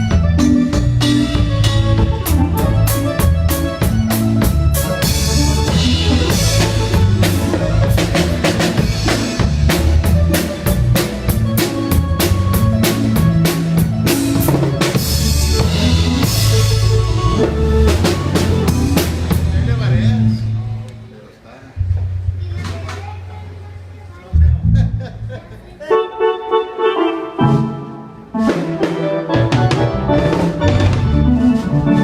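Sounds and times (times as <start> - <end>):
drum kit beating: 0.0 - 20.6, 27.0 - 32.0
bass line: 0.0 - 20.9, 21.8 - 22.6, 24.3 - 25.5, 27.4 - 32.0
live band playing: 0.0 - 21.1, 21.8 - 32.0.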